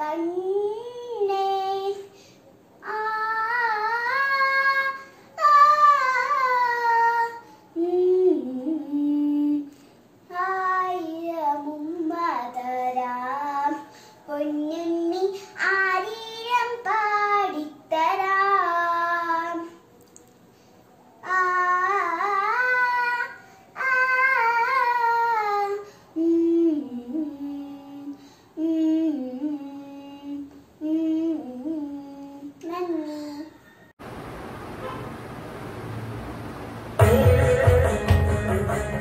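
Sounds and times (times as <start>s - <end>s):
girl singing: 0.0s - 19.9s, 21.2s - 33.7s.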